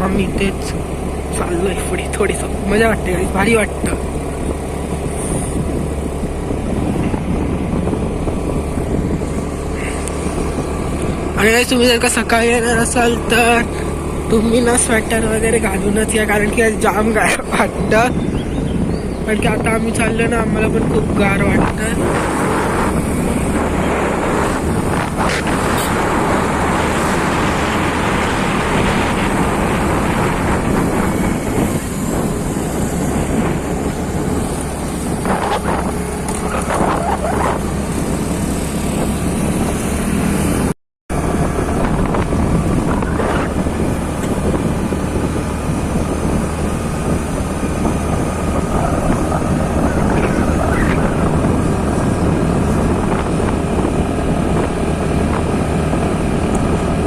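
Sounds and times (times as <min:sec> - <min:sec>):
motorcycle engine drone: 0:00.0 - 0:57.0
wind rushing over microphone: 0:00.0 - 0:57.0.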